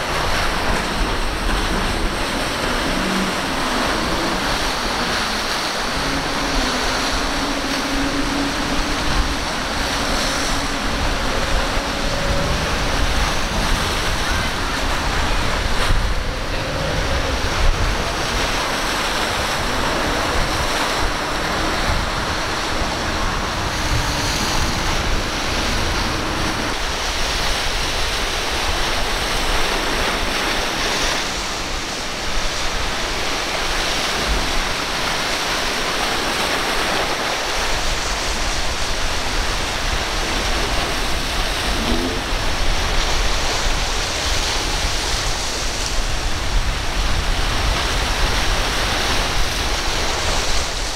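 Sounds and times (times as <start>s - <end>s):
surf breaking and rushing: 0.0s - 50.9s
wind buffeting microphone: 0.0s - 50.9s.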